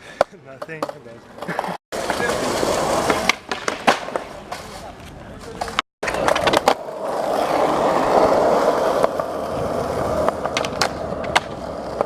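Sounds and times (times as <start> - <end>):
skateboard wheels rolling on pavement: 0.0 - 12.0
skateboard clacks and knocks: 0.1 - 4.8, 5.4 - 12.0.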